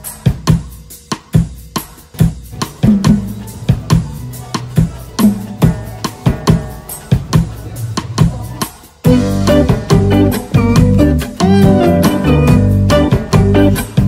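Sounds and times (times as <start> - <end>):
drum beat with bass line: 0.0 - 14.0.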